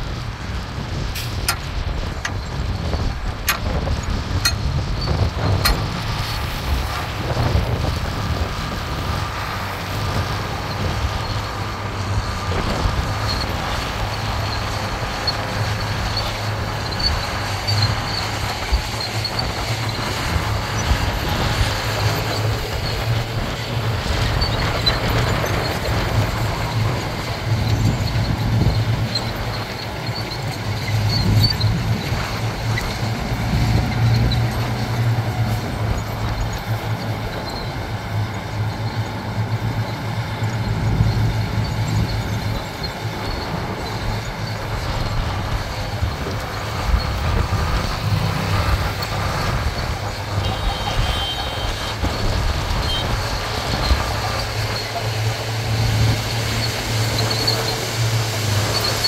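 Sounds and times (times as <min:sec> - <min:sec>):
diesel machinery engine drone: 0:00.0 - 0:59.0.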